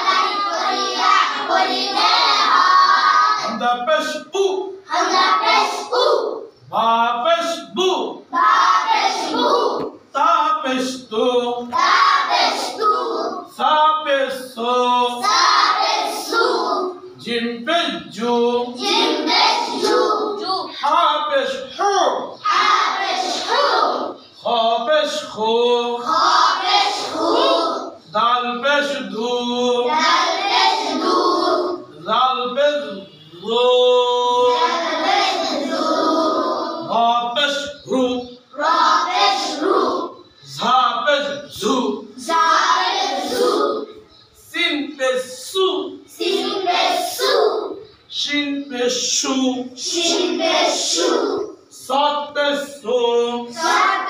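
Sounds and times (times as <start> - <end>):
children chanting in unison: 0.0 - 3.6, 4.8 - 6.6, 8.3 - 10.0, 11.6 - 14.4, 15.0 - 17.2, 18.5 - 32.1, 32.7 - 44.6, 46.1 - 54.0.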